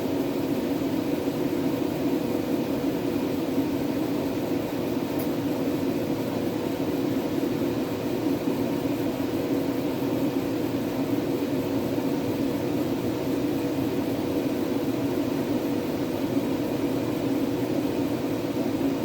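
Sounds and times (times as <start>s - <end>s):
machine fan hum: 0.0s - 19.0s.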